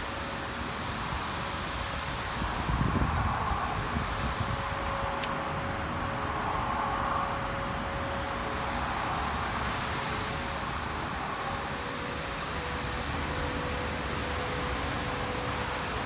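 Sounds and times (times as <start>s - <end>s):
faint steady whine: 0.0s - 16.0s
traffic engine hum: 0.0s - 16.0s.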